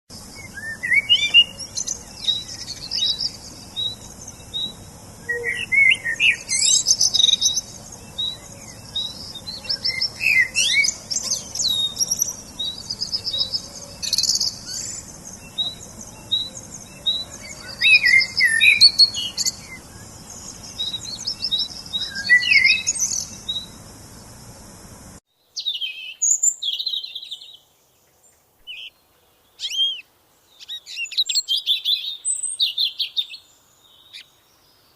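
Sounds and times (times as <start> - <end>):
background hiss: 0.1 - 34.9
songbirds singing: 0.1 - 34.9.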